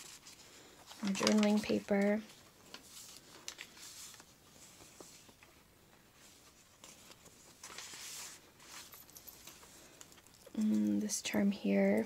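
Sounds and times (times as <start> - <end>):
paper rustling and sliding: 0.0 - 9.9.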